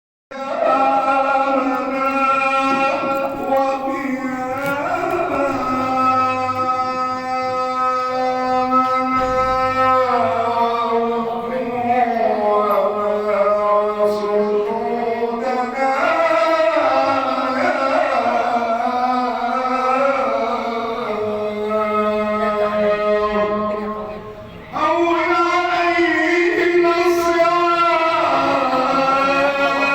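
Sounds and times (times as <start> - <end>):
man chanting melodically: 0.3 - 29.9.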